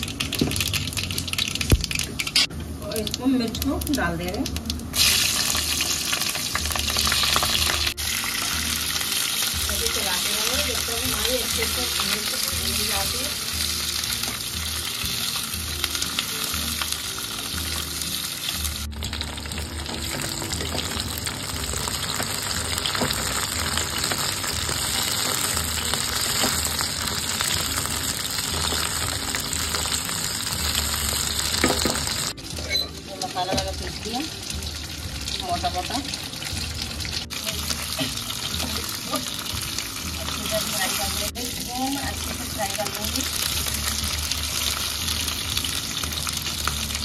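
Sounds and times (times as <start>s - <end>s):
chillies sizzling in oil: 0.0s - 47.0s.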